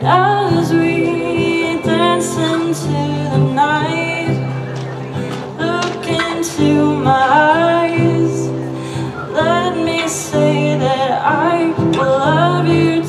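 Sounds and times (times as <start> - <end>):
acoustic guitar: 0.0 - 13.0
woman singing: 0.0 - 13.0.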